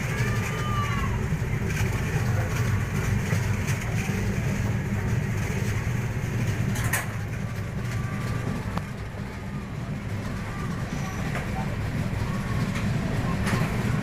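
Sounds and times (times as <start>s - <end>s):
passenger train rumbling: 0.0s - 14.0s.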